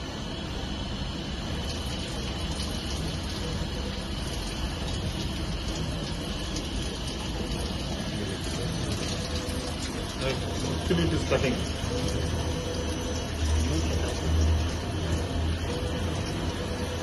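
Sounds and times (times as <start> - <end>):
coolant splashing hiss: 0.0 - 17.0
faint high whine: 0.0 - 17.0
low machine hum: 0.0 - 17.0.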